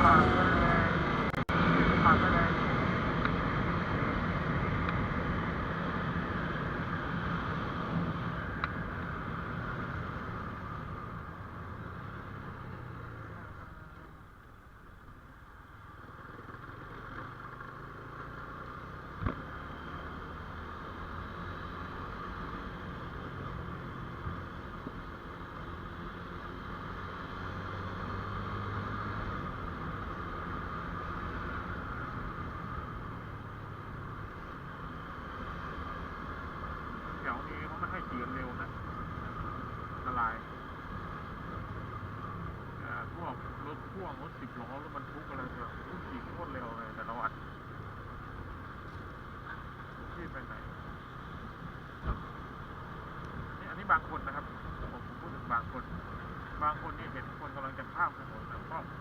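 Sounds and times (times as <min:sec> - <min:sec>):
wind: 0:00.0 - 0:59.0.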